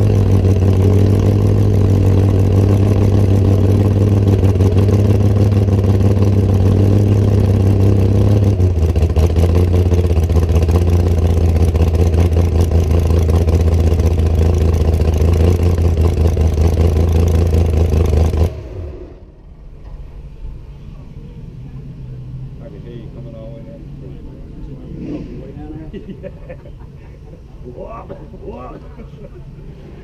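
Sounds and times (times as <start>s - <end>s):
car engine running loud: 0.0s - 25.6s.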